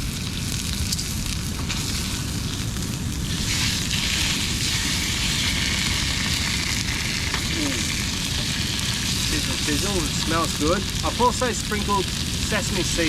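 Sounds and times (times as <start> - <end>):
constant low rumble: 0.0 - 13.0
fish sizzling in a pan: 0.0 - 13.0.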